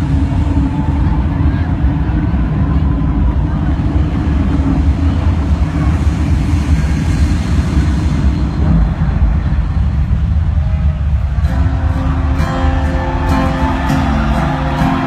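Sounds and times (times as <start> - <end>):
low rumble through sound system: 0.0 - 15.0.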